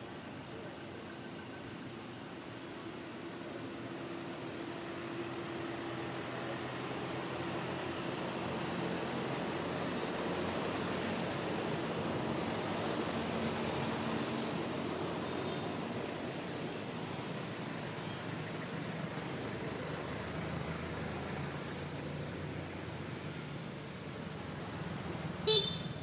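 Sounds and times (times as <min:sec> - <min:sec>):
faint low engine hum: 0:00.0 - 0:26.0.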